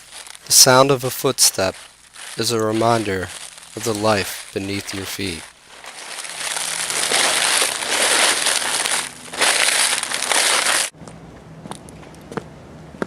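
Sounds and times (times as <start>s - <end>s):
footsteps crunching through leaves: 0.0s - 11.0s.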